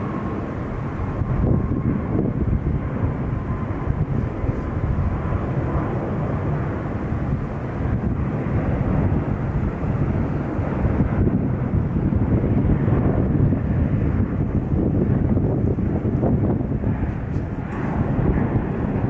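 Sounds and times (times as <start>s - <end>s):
faint engine whine: 0.0s - 19.0s
jet engines rumbling: 0.0s - 19.0s.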